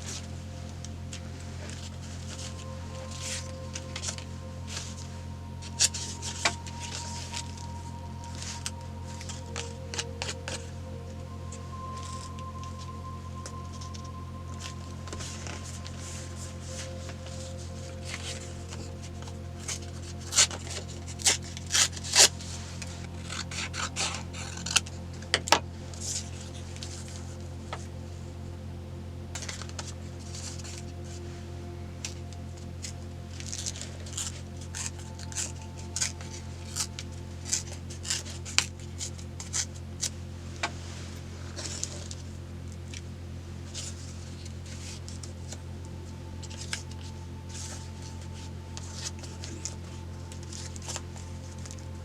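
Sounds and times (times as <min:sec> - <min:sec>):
low hum: 0:00.0 - 0:52.0.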